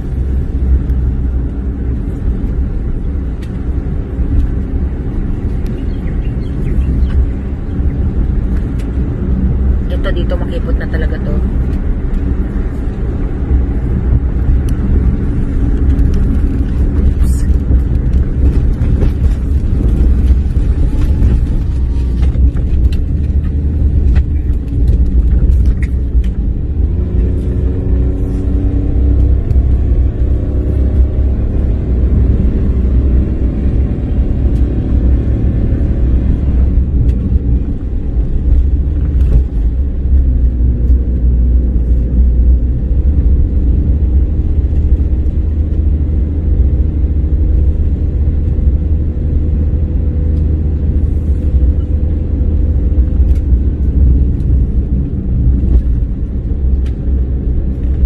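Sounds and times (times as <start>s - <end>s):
car engine and road rumble: 0.0s - 58.0s
knocks and rattles from rough road: 0.0s - 58.0s.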